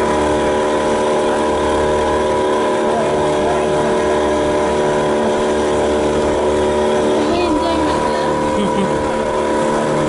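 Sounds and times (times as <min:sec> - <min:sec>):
motorboat engine running: 0:00.0 - 0:10.0
rushing water: 0:00.0 - 0:10.0
wind: 0:00.0 - 0:10.0.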